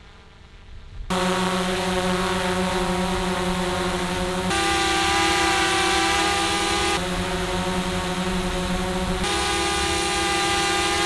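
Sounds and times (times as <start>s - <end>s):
drone propeller buzz: 1.1s - 11.0s.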